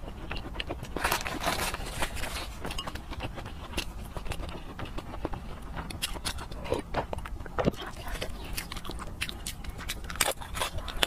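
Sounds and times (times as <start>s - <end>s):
wet chewing clicks and smacks: 0.0s - 11.0s.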